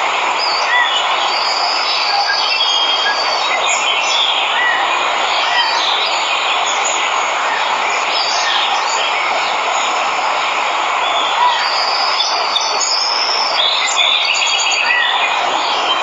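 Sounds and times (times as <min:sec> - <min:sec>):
waterfall rushing: 0:00.0 - 0:16.0
birds chirping: 0:00.3 - 0:16.0.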